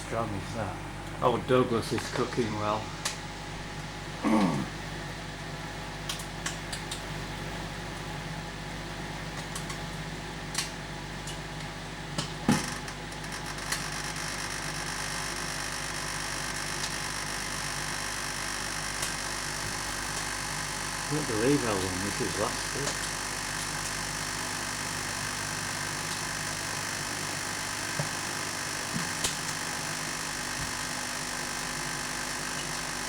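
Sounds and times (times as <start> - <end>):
microwave oven humming: 0.0 - 33.0.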